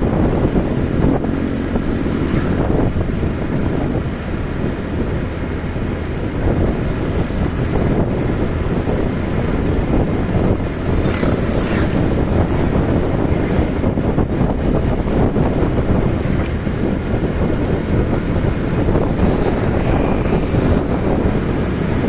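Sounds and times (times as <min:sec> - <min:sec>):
motorcycle engine and road rumble: 0:00.0 - 0:22.0
wind buffeting microphone: 0:00.0 - 0:22.0.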